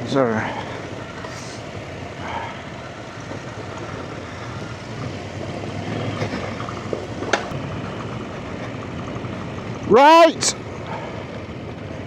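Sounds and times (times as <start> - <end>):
motorcycle engine running: 0.0 - 9.9, 10.5 - 12.0.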